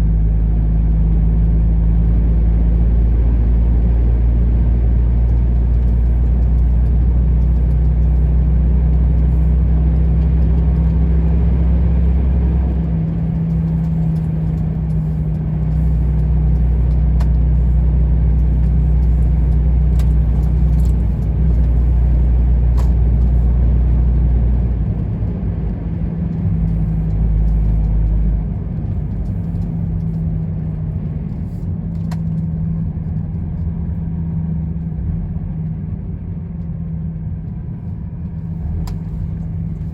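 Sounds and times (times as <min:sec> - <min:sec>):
road noise: 0:00.0 - 0:39.9
truck diesel engine driving: 0:00.0 - 0:39.9.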